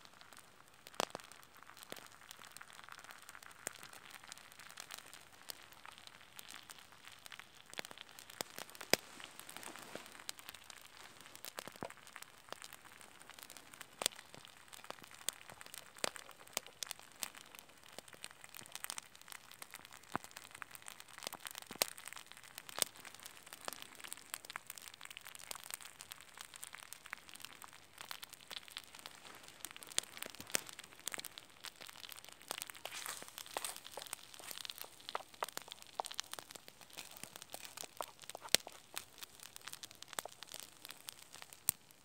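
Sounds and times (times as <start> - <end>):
burning wood crackling: 0.0 - 42.0
egg sizzling with pops: 0.0 - 42.0.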